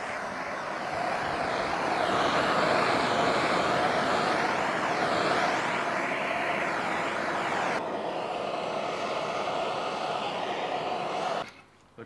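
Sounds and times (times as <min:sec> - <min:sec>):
blowtorch hissing: 0:00.0 - 0:11.5.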